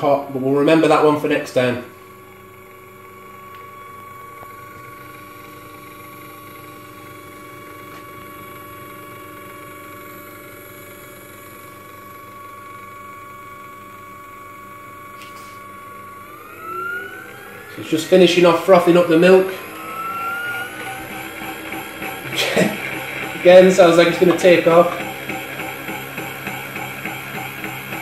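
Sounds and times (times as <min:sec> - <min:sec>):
milk frother whisk whining: 0:00.0 - 0:28.0.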